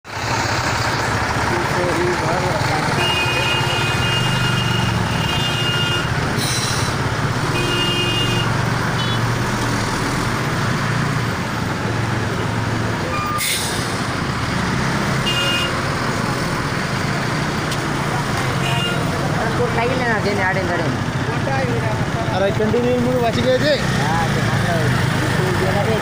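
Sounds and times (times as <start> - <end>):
tyres on the road: 0.0 - 26.0
heavy vehicle engines humming: 0.1 - 26.0.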